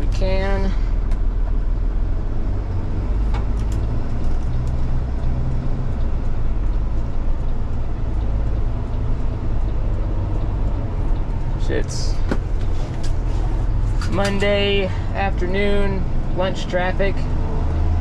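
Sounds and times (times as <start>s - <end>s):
truck engine droning under load: 0.0s - 18.0s.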